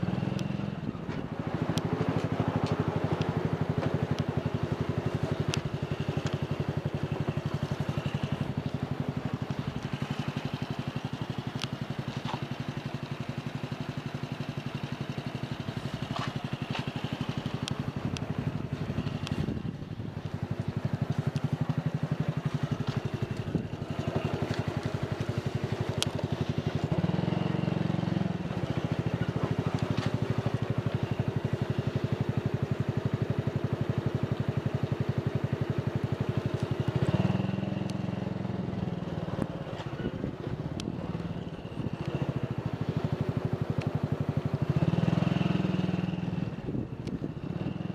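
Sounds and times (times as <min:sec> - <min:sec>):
motorcycle engine at low revs: 0:00.0 - 0:47.9.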